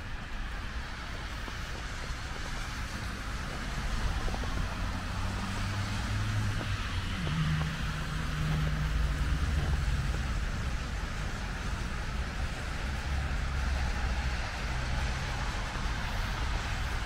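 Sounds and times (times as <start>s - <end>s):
car engines humming: 0.0s - 17.0s
tyres hissing on road: 0.0s - 17.0s.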